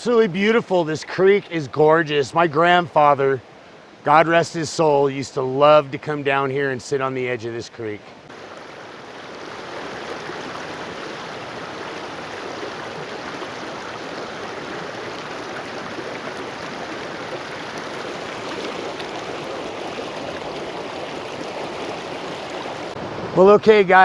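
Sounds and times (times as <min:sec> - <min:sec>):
creek running over rocks: 0:00.0 - 0:24.0.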